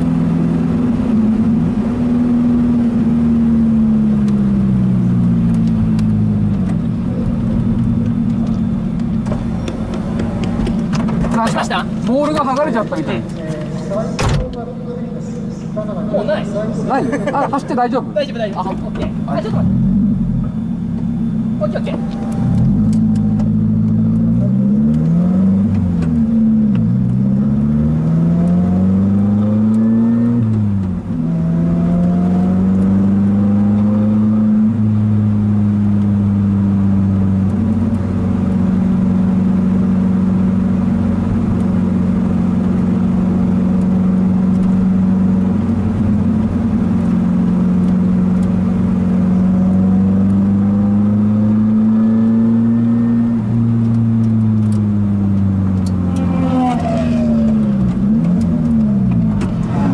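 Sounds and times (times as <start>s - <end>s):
sports car engine revving: 0.0s - 59.9s.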